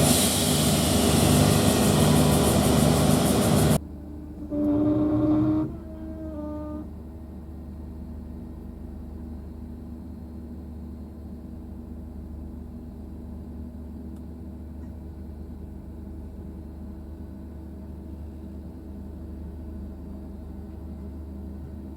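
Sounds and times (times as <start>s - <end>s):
train running with low hum: 0.0s - 21.9s.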